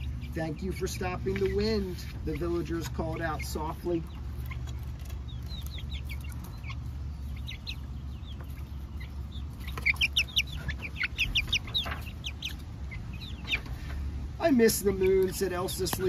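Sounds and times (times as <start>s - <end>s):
chicks peeping and chirping: 0.0s - 16.0s.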